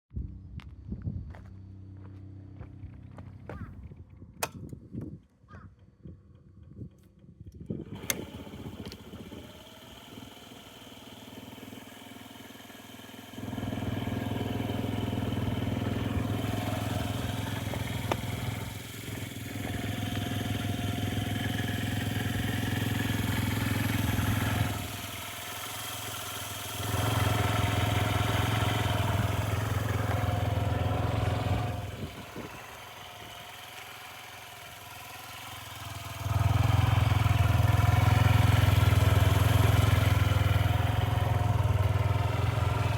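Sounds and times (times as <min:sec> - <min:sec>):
scooter engine idling and revving: 0:00.0 - 0:04.8, 0:05.5 - 0:42.9.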